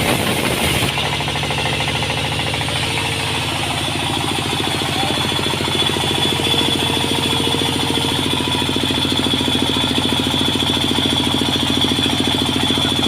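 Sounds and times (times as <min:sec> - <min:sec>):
sawmill engine idling: 0:00.0 - 0:13.0.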